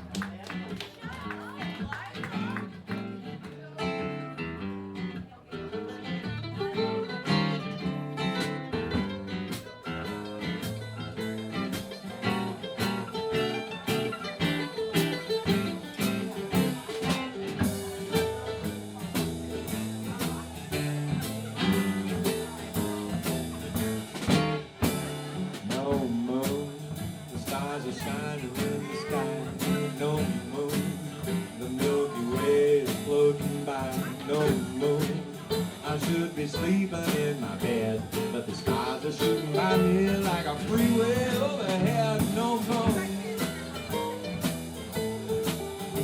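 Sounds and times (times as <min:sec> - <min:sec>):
guitar: 0:00.0 - 0:46.0
live band instrumental: 0:00.0 - 0:46.0.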